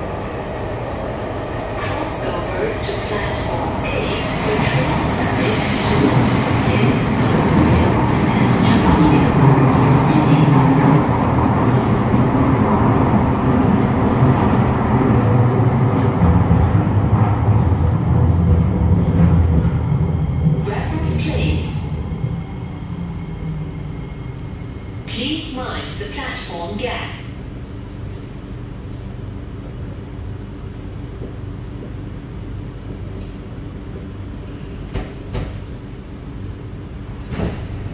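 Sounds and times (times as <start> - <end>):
metro train rumbling on track: 0.0 - 37.9.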